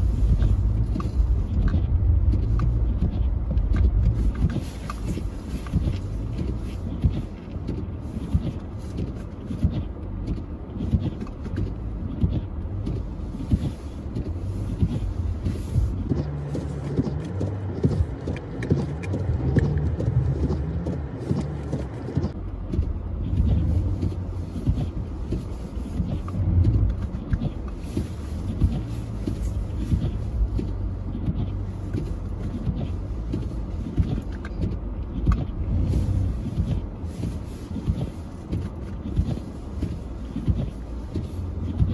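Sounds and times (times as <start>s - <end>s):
car engine rumbling under load: 0.0s - 41.9s.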